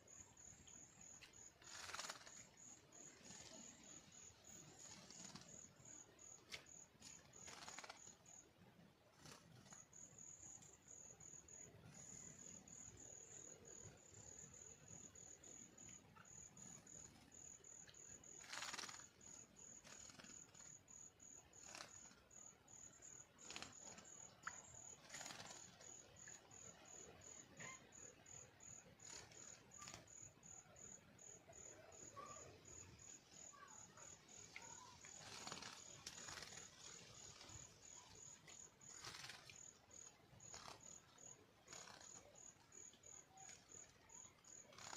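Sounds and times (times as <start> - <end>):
faint insect chirping: 0.0 - 44.9.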